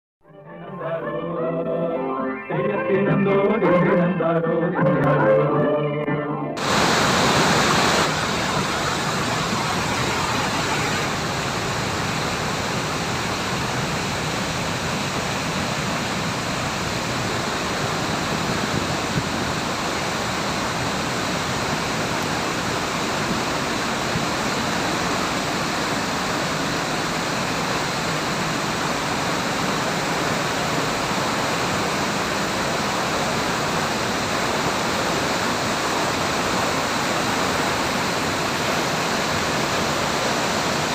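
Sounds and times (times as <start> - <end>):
waterfall rushing: 6.6 - 40.9.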